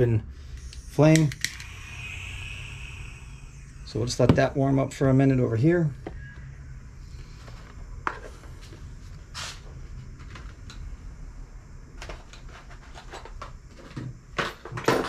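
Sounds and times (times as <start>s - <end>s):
low steady hum: 0.0s - 14.8s.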